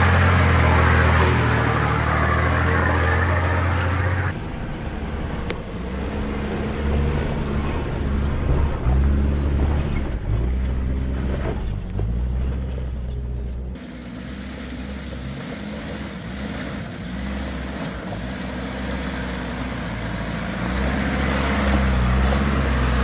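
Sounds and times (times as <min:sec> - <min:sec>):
diesel engine running steadily: 0:00.0 - 0:23.0
engine revving while climbing: 0:00.0 - 0:23.0.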